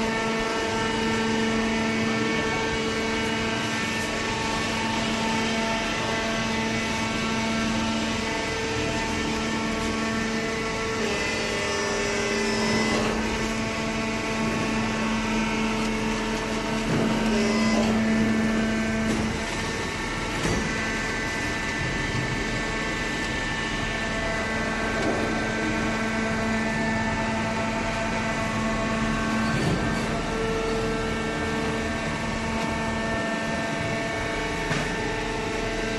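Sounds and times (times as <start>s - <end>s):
hydraulic press motor and pump hum: 0.0s - 35.9s.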